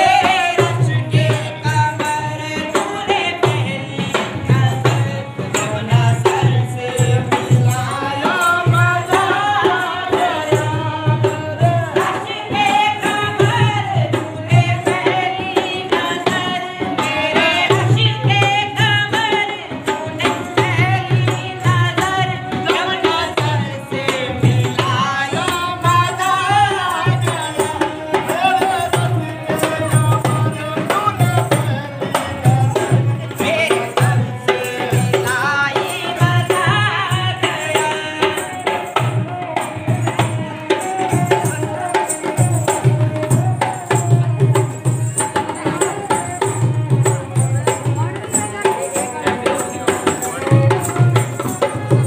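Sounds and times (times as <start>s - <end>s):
boy singing: 0.0s - 52.0s
hand drum beat: 0.0s - 52.0s.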